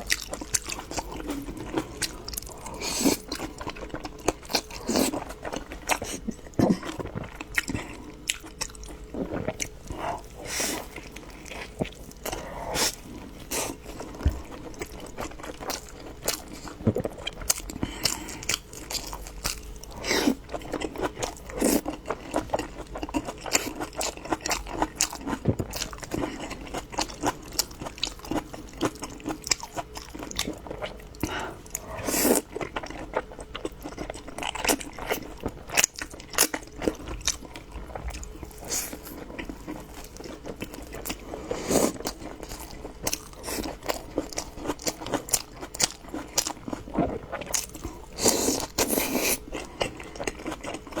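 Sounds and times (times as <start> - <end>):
person chewing crunchy food: 0.0 - 51.0.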